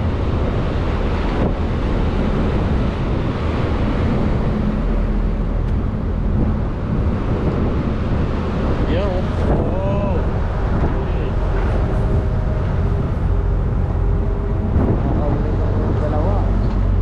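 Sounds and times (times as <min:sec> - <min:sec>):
boat engine rumbling: 0:00.0 - 0:17.0
wind buffeting microphone: 0:00.0 - 0:17.0.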